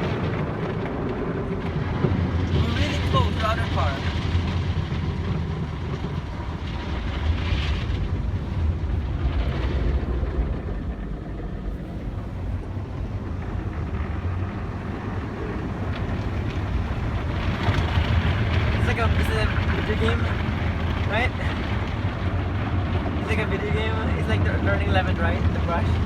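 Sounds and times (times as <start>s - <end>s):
car wash machinery rumble: 0.0s - 26.0s.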